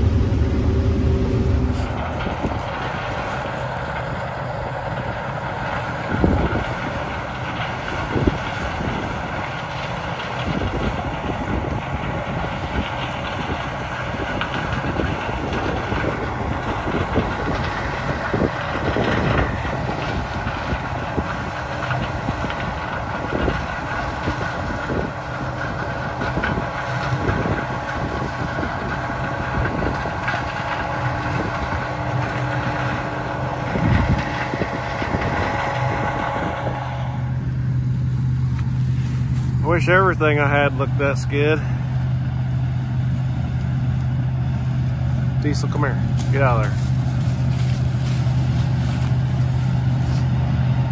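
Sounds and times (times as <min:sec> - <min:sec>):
farm machinery engine rumbling: 0:00.0 - 0:50.9
steady whine tones: 0:00.0 - 0:50.9.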